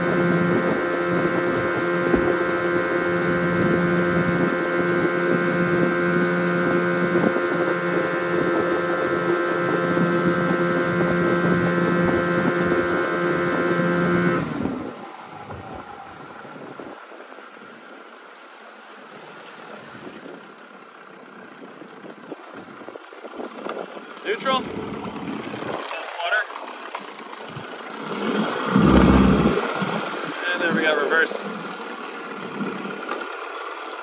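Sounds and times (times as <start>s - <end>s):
outboard motor running: 0.0s - 34.0s.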